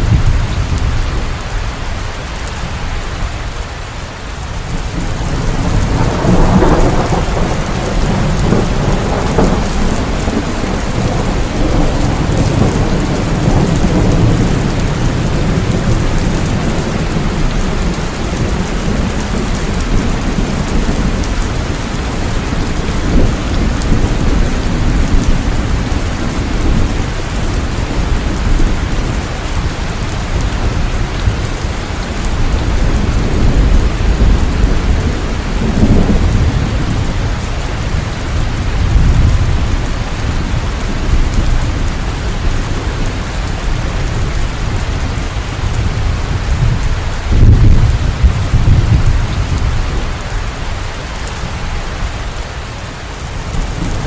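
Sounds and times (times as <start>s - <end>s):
thunder rumbling: 0.0s - 2.0s, 4.6s - 52.4s
steady rain falling: 0.0s - 54.0s.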